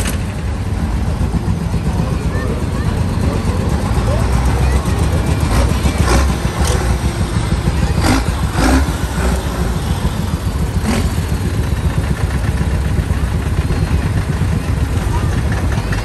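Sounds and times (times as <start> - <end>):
tractor engines rumbling: 0.0 - 16.0.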